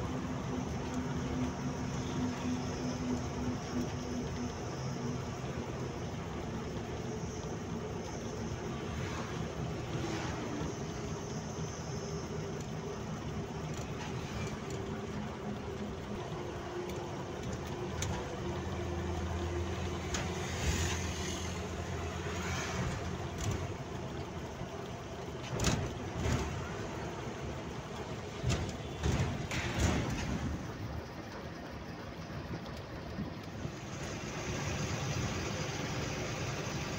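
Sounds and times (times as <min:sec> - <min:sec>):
road and wind noise: 0:00.0 - 0:36.9
vehicle engine hum: 0:00.0 - 0:36.9.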